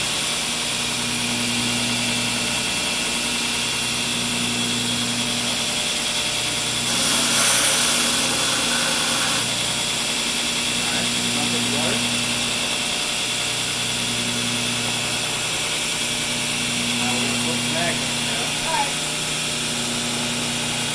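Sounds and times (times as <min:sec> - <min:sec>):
forge droning hum: 0:00.1 - 0:20.9.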